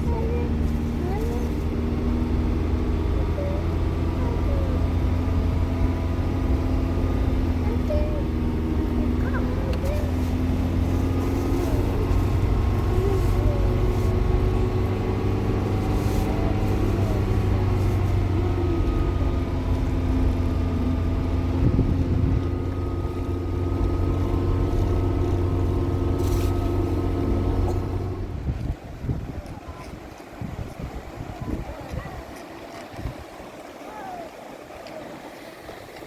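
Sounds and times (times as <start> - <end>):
vehicle engine running: 0.0 - 33.5.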